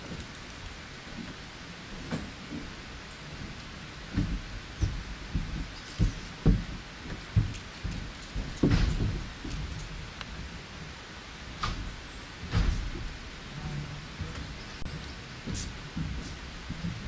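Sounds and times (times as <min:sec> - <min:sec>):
steady background hiss: 0:00.0 - 0:17.0
dull low thumps: 0:02.1 - 0:10.5, 0:11.6 - 0:17.0.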